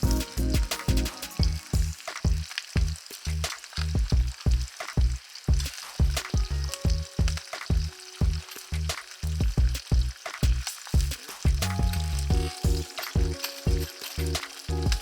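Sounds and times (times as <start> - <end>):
background music with bass line: 0.0 - 15.0
oil sizzling in a skillet: 0.0 - 15.0.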